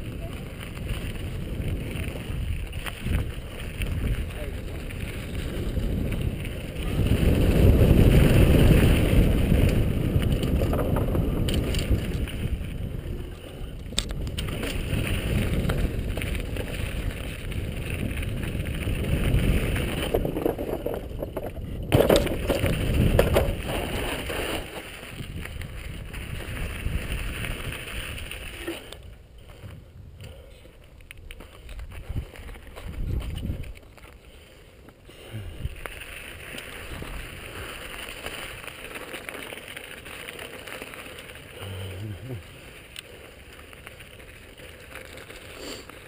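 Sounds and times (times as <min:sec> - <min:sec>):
wind rushing over camera: 0:00.0 - 0:34.2, 0:35.1 - 0:46.0
bike tyres rolling on gravel: 0:00.0 - 0:46.0.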